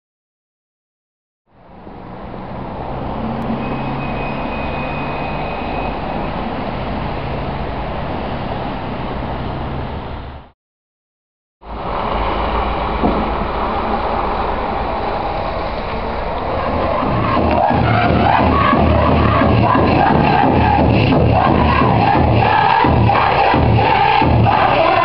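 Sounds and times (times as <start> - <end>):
city street traffic: 1.5 - 10.6, 11.6 - 25.0.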